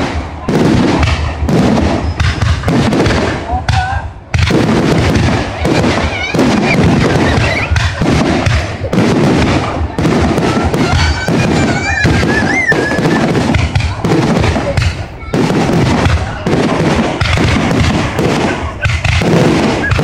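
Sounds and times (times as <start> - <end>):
fireworks banging and crackling: 0.0 - 20.0.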